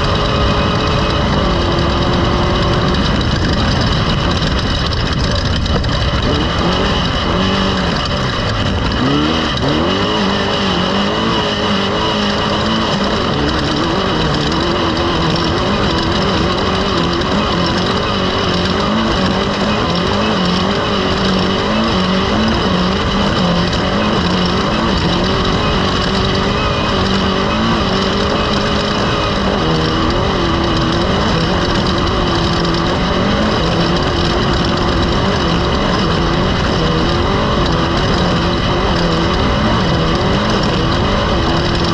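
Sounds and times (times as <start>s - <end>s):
motor engine running: 0.0s - 41.9s
steady rushing noise: 0.0s - 41.9s.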